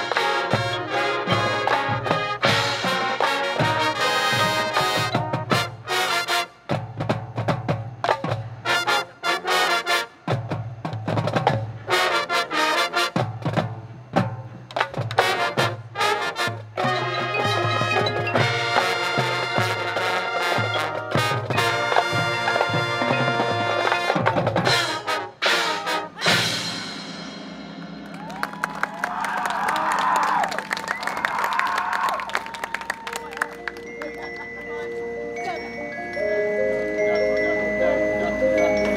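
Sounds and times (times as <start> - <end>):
percussion hits: 0.0 - 9.5, 13.0 - 31.6, 32.3 - 38.9
marching band playing: 0.0 - 38.9.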